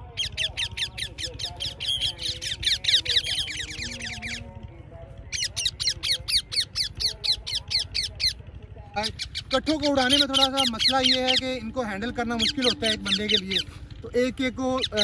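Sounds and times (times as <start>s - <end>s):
parakeets screeching: 0.0s - 15.0s.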